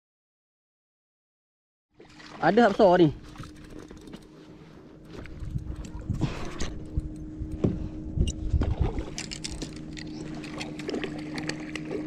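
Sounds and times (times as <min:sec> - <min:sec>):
water sloshing against hull: 0:01.9 - 0:12.0
steady low hum: 0:02.0 - 0:12.0.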